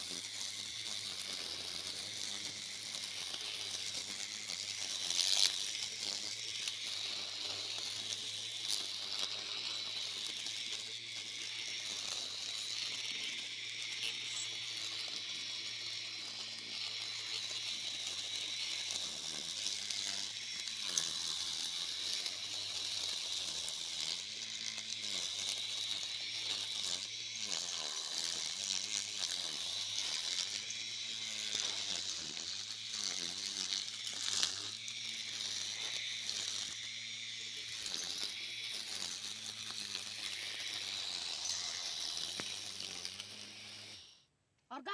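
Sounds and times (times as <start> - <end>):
lawn mower motor whine: 0.0 - 44.8
blade cutting grass: 0.0 - 44.9.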